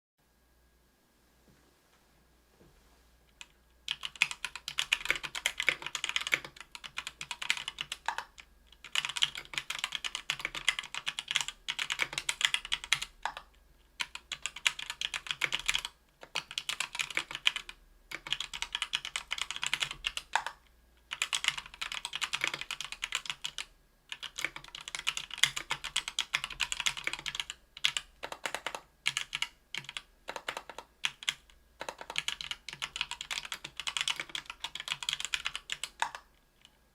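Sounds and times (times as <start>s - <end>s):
fast typing on mechanical keyboard: 3.4s - 36.3s.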